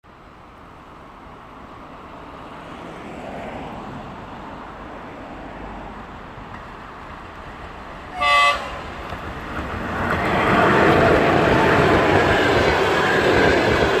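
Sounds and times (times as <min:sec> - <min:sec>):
train rolling rumble: 0:00.2 - 0:14.0.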